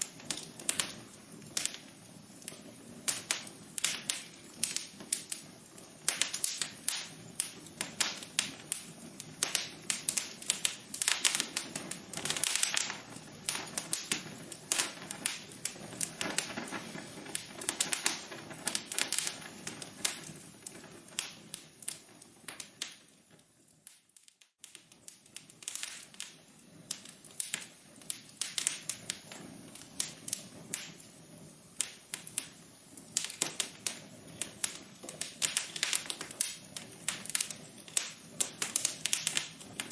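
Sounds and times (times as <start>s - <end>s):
low hiss of fire: 0.0s - 39.9s
wood fire crackling and popping: 0.0s - 39.9s.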